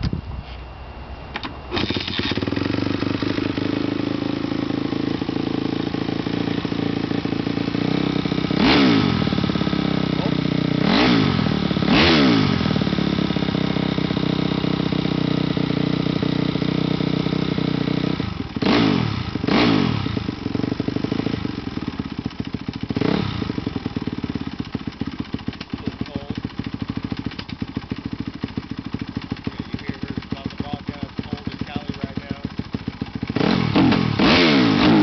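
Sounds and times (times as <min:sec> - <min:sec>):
motorcycle engine revving and idling: 0:01.7 - 0:35.0.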